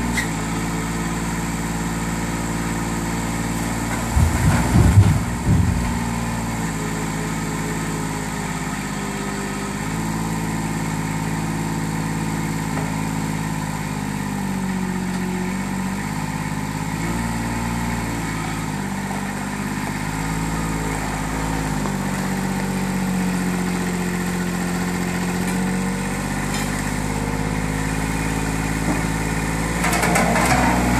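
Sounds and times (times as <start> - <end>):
dumper engine running: 0.0 - 30.9.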